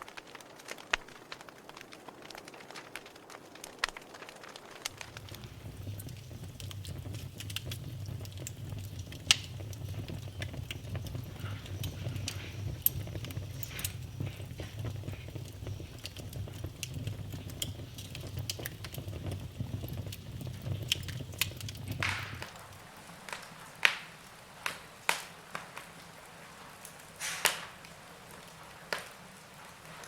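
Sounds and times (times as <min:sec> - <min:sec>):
burning logs popping: 0:00.0 - 0:30.0
wood fire crackling: 0:00.0 - 0:30.0.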